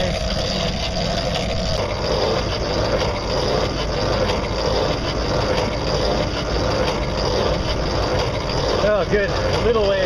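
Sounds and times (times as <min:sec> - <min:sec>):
motorboat engine passing: 0:00.0 - 0:10.0
water noise: 0:00.0 - 0:10.0
wind: 0:00.0 - 0:10.0.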